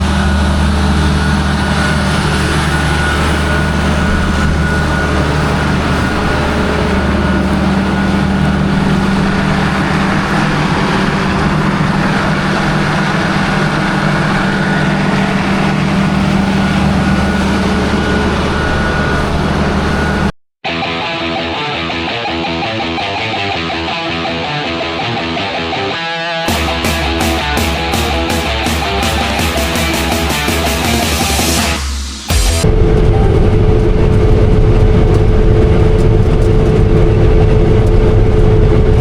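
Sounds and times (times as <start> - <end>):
diesel engine running under load: 0.0 - 20.3, 26.5 - 39.0
thin steady whine: 0.0 - 20.3, 26.5 - 39.0.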